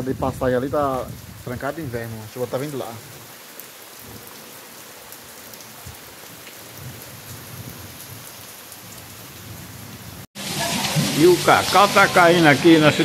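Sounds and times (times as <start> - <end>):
heavy rain on plants: 0.0 - 13.0.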